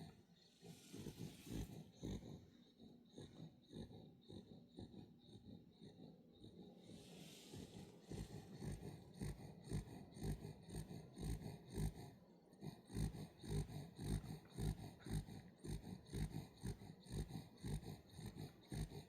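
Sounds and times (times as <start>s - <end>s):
dog snoring: 0.0s - 19.0s.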